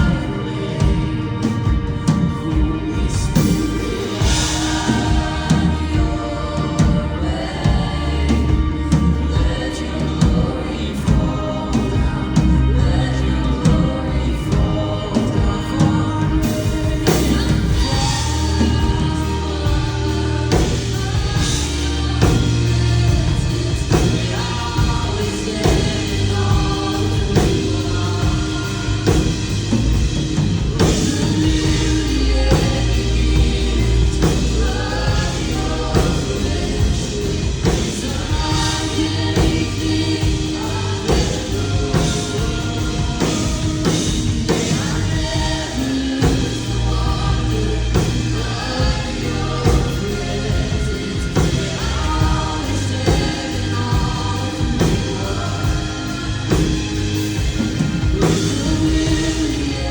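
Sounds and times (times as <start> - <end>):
band with drums and bass: 0.0 - 59.9
group of voices singing: 0.0 - 59.9.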